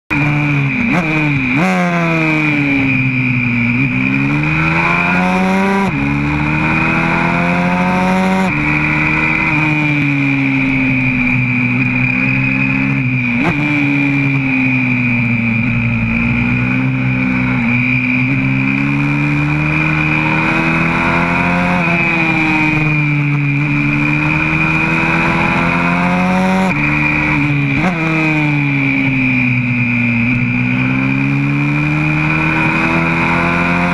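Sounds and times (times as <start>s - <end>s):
high whine: 0.1s - 33.9s
motorbike engine revving: 0.1s - 33.9s.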